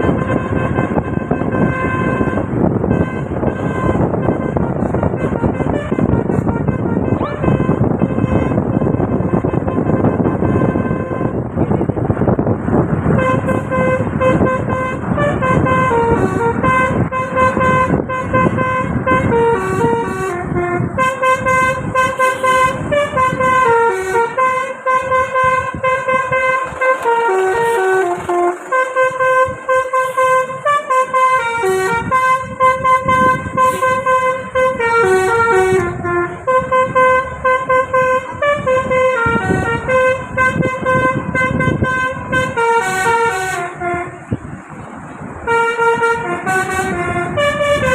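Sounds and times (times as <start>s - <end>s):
multi-tone bus horn playing a tune: 0.0s - 47.9s.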